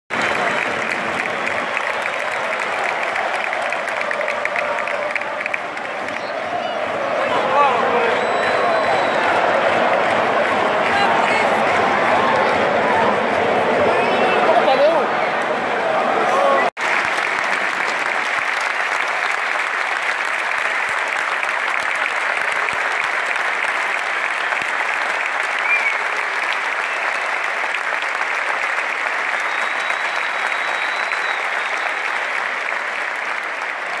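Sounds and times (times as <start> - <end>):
stadium crowd applauding: 0.1 - 34.0.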